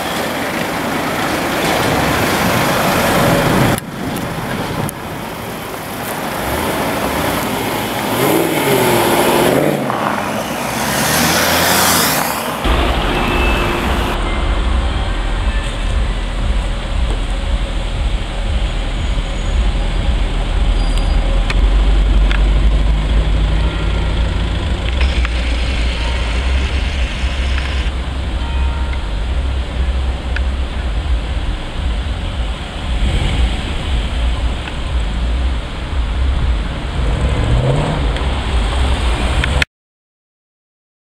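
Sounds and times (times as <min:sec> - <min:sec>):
car engine exhaust rumble: 0:00.0 - 0:39.6.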